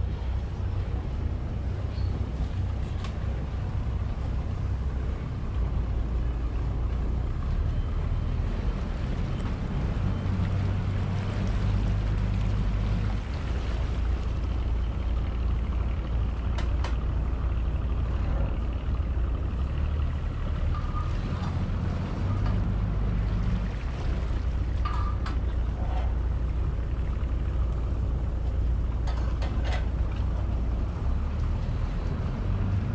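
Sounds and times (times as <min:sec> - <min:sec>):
boat engine droning: 0:00.0 - 0:32.9
wind: 0:00.0 - 0:32.9.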